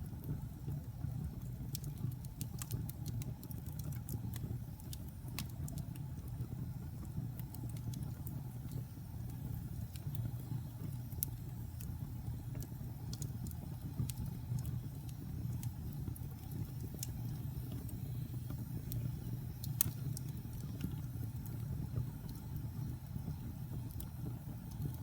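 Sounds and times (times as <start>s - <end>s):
burning wood crackling and popping: 0.0s - 25.0s
fire rumbling in a fireplace: 0.0s - 25.0s.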